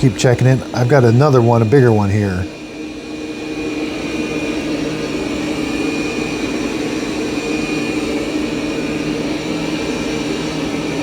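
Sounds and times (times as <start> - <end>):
robot vacuum humming on carpet: 0.0 - 11.0.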